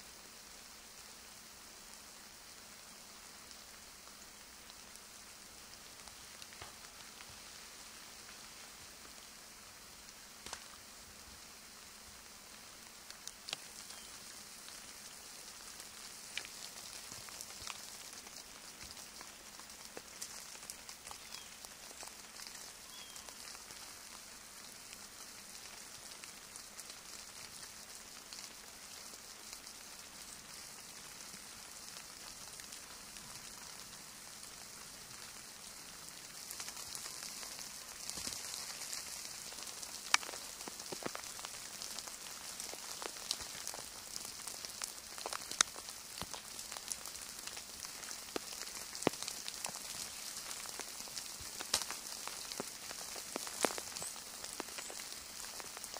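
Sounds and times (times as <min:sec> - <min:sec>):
rain and melting snow dripping: 0:00.0 - 0:55.9.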